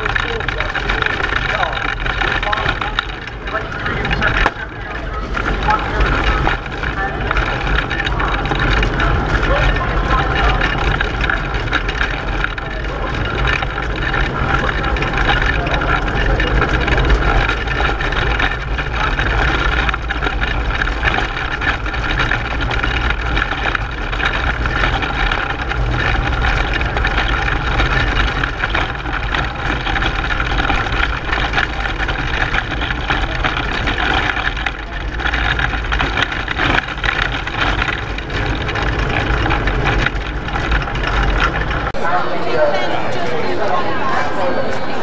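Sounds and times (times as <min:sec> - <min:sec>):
frame and wheels rattling: 0:00.0 - 0:42.0
road rumble: 0:00.0 - 0:42.1.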